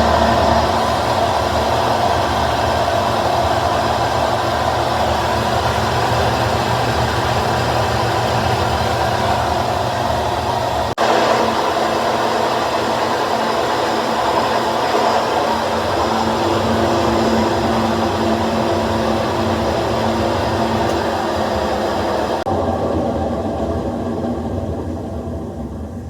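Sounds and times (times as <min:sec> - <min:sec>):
pitched hum: 0:00.0 - 0:26.0
washing machine droning: 0:00.0 - 0:26.0.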